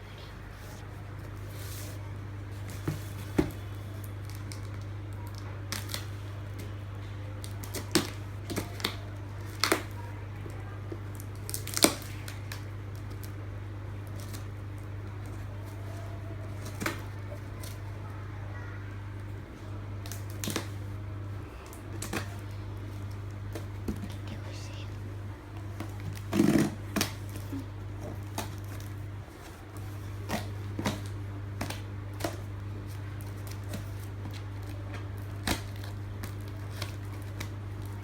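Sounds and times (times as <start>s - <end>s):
steady low hum: 0.0s - 38.0s
packaging clicks and crackles: 0.8s - 24.3s, 25.5s - 38.0s.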